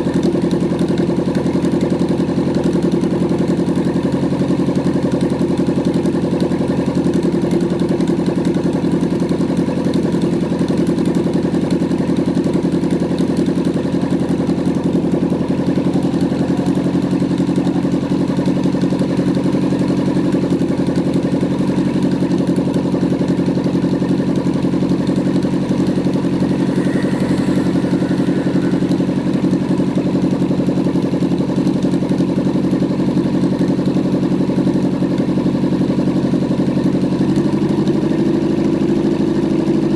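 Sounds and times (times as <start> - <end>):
helicopter engine running steadily: 0.0 - 39.9.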